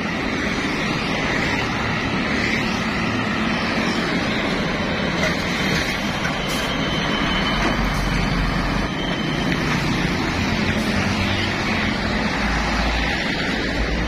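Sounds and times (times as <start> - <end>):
tyre noise on road: 0.0 - 14.0.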